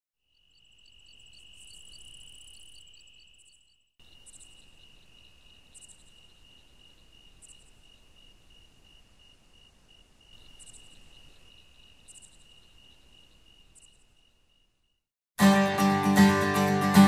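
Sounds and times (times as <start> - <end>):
crickets chirping: 0.2 - 15.0.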